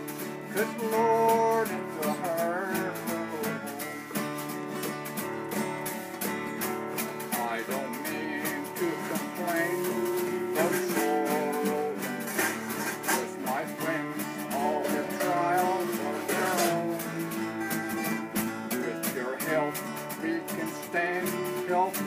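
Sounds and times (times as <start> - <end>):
man singing: 0.0 - 4.5, 6.9 - 22.0
acoustic guitar strumming: 0.0 - 22.0.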